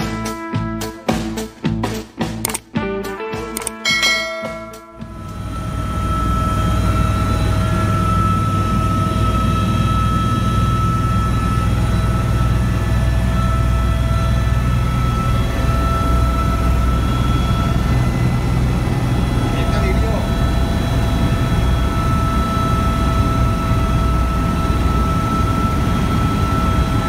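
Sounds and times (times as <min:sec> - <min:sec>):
helicopter engine and rotor drone: 0:03.6 - 0:27.0
thin steady whine: 0:03.9 - 0:27.0.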